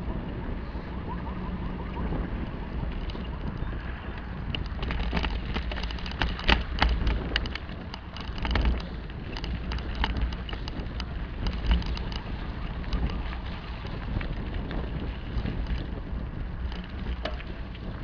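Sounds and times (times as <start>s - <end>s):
bicycle rattling over gravel: 0.0s - 18.0s
wind buffeting microphone: 0.0s - 18.0s.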